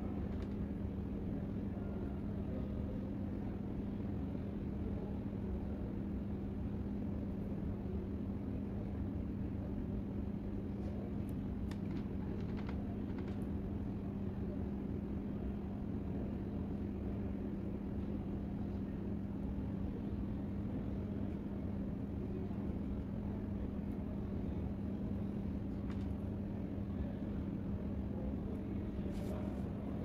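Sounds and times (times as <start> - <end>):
constant low hum: 0.0 - 30.0
low background rumble: 0.0 - 30.0.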